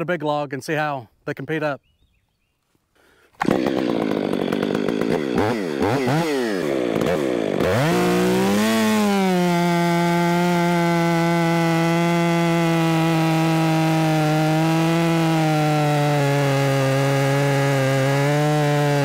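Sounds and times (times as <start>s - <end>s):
chainsaw revving: 3.4s - 19.0s.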